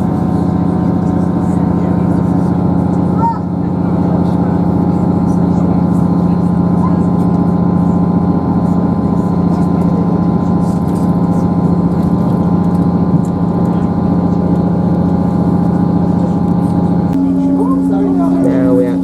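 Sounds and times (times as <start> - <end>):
train engine droning: 0.0 - 19.0.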